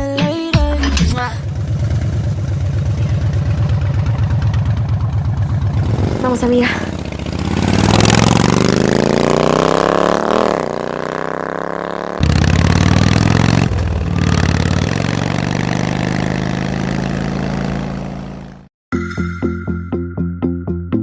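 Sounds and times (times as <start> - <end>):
motor engine revving: 1.3 - 18.7.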